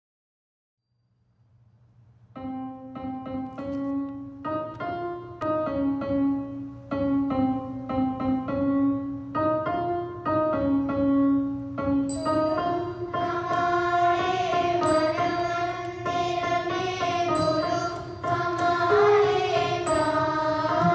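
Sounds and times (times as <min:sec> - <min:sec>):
keyboard melody: 0:02.4 - 0:20.9.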